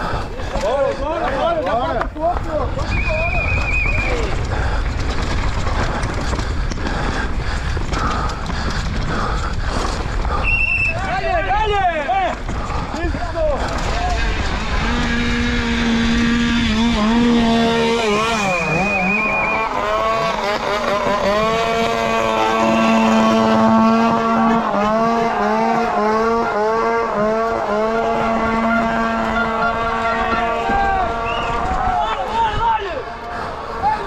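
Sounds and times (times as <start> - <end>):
tyres rumbling on dirt: 0.0 - 34.0
bicycle freehub buzzing: 2.5 - 34.0.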